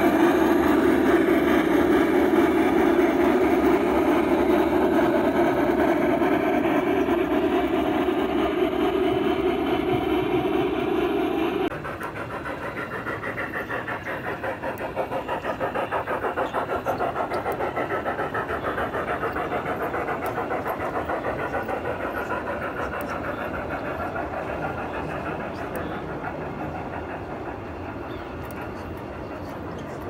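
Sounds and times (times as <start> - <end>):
model steam locomotive chuffing: 0.0 - 30.0.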